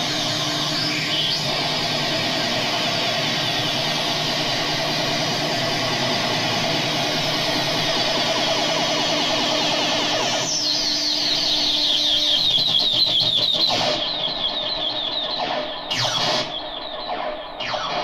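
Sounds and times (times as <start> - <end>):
sustained electronic tone: 0.0 - 18.0
falling electronic bleeps: 3.0 - 18.0.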